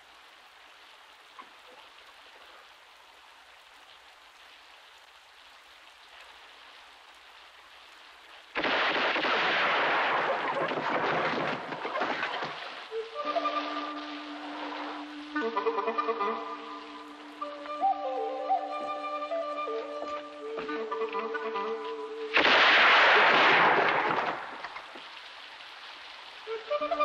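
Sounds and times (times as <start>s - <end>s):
heavy downpour rush: 0.0s - 27.0s
rain hissing: 0.0s - 27.0s.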